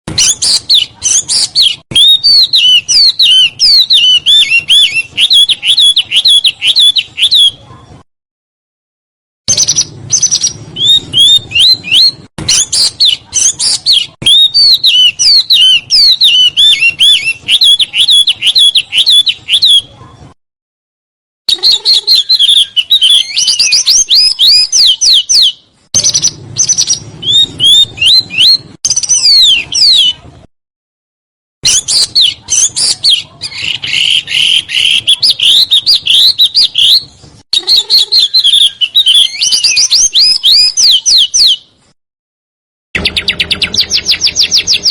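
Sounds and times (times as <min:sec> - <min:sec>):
songbird whistled song: 0:00.1 - 0:07.9, 0:09.5 - 0:20.1, 0:21.5 - 0:30.3, 0:31.6 - 0:41.9, 0:43.0 - 0:44.9.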